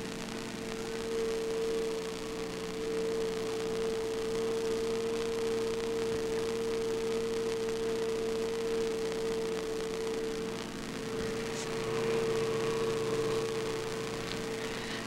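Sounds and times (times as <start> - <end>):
steady mid-pitched hum: 0.0 - 15.0.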